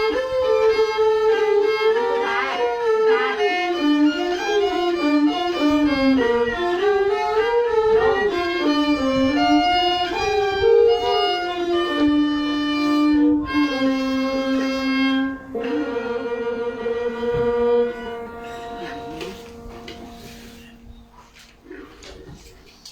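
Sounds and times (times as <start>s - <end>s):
bowed fiddle melody: 0.0s - 22.0s.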